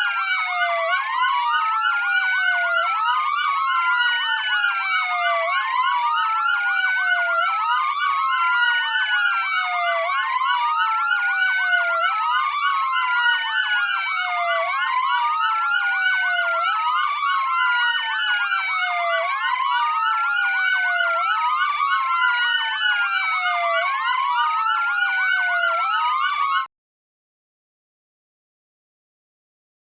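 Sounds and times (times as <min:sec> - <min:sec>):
emergency sirens wailing: 0:00.0 - 0:26.7.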